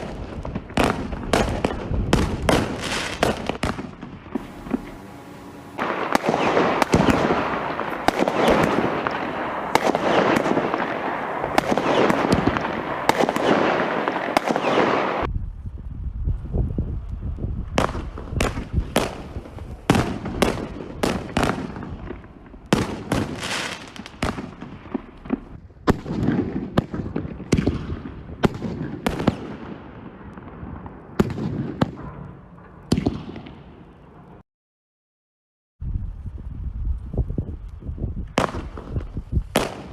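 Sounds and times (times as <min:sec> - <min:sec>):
fireworks crackling and banging: 0:00.0 - 0:15.4, 0:16.7 - 0:34.4, 0:38.2 - 0:39.9.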